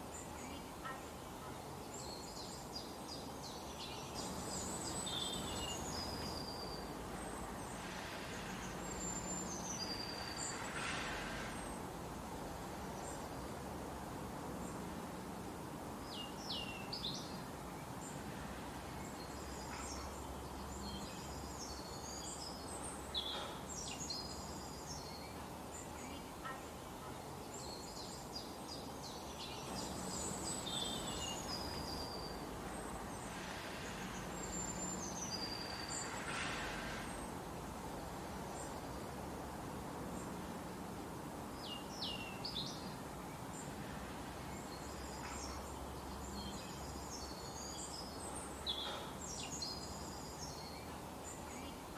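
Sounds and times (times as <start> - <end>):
forest ambience hiss: 0.0 - 51.9
forest birds chirping: 0.0 - 51.9.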